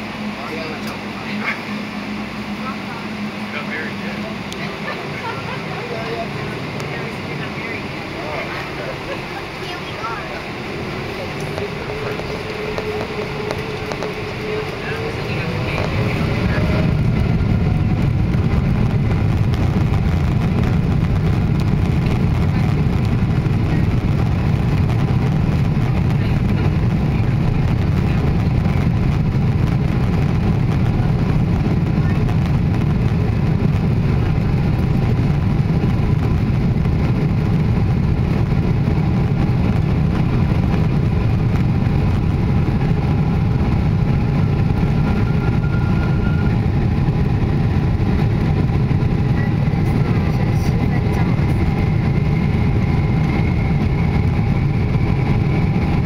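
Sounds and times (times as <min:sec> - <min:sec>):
faint engine whine: 0:00.0 - 0:56.0
jet engine rumble in cabin: 0:00.0 - 0:56.0.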